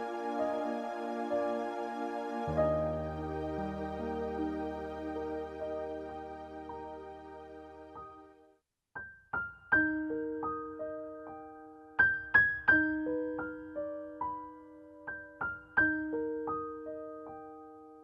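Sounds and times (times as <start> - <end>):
slow piano melody: 0.0 - 8.5, 9.4 - 18.0.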